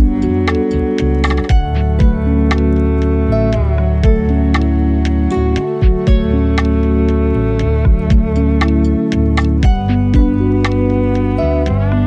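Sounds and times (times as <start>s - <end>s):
lo-fi hip hop instrumental: 0.0s - 12.0s.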